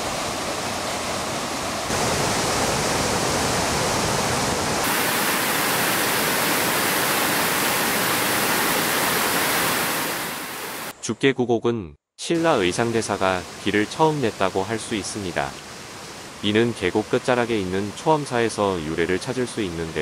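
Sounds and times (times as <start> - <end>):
stream rushing over boulders: 0.0 - 10.9, 12.4 - 20.0.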